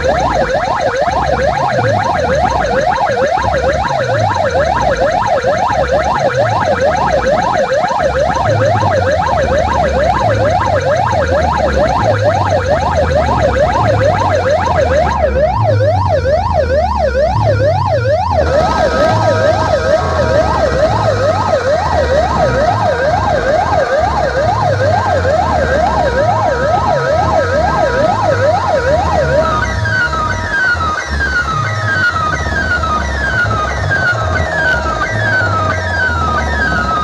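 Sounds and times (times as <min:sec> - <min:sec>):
pounding bass beat: 0:00.0 - 0:37.0
siren wailing up and down: 0:00.0 - 0:37.0.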